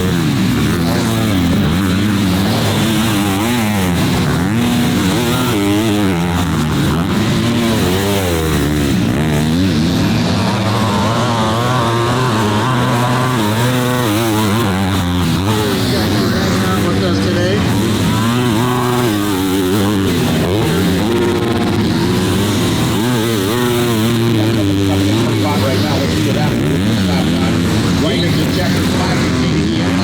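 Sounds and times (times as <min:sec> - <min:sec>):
motocross bikes revving: 0:00.0 - 0:30.0.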